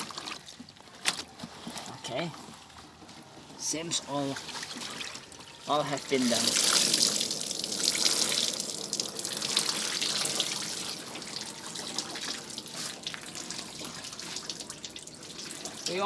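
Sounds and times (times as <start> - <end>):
water trickling and dripping into tub: 0.0 - 0.9, 4.0 - 16.0.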